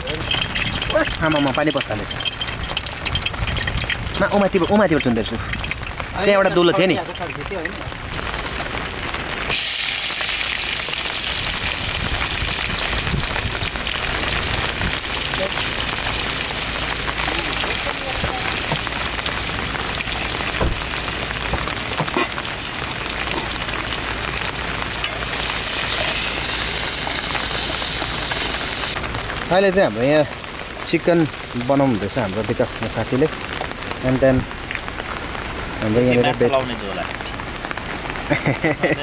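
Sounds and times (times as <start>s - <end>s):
food sizzling in hot oil: 0.0s - 35.6s.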